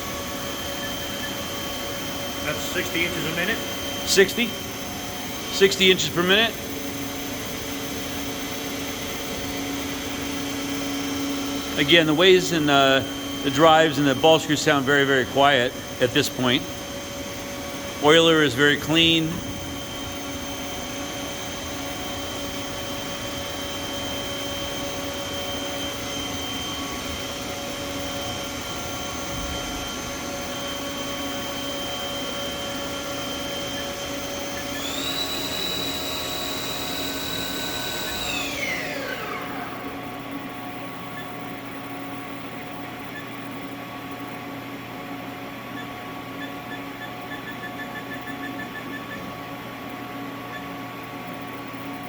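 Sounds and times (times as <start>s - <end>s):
machine low hum: 0.0s - 52.0s
machine spindle whine: 0.0s - 52.0s.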